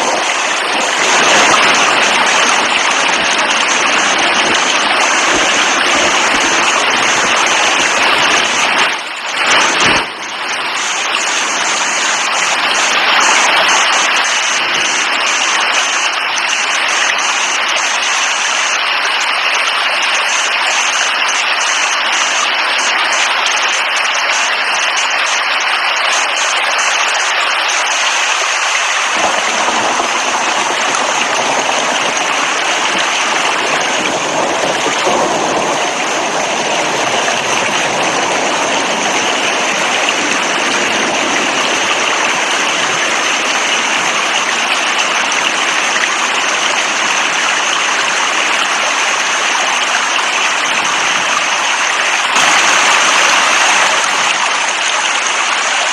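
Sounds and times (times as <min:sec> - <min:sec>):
heavy rainfall: 0:00.0 - 0:55.9.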